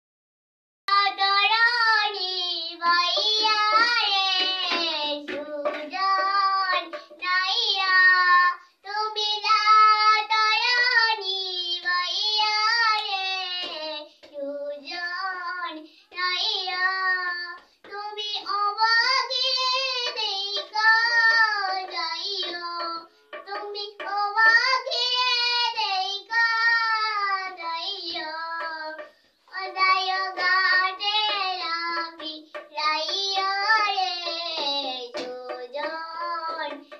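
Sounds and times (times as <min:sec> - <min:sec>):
girl singing unaccompanied: 0:00.9 - 0:36.9.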